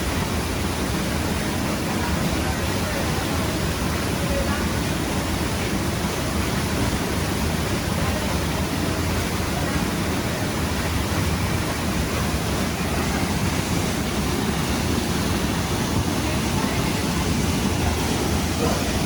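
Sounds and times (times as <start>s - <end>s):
waterfall water rushing: 0.0s - 19.0s.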